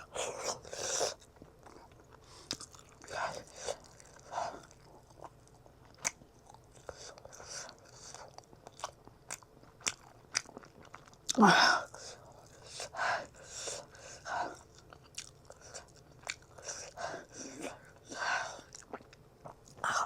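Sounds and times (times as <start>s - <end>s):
person chewing and biting food: 0.0s - 12.7s, 14.6s - 20.0s.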